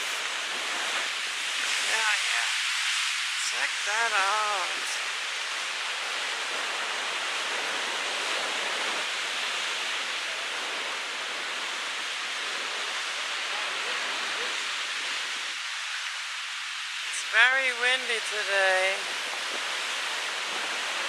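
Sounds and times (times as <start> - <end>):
heavy surf: 0.0 - 21.0.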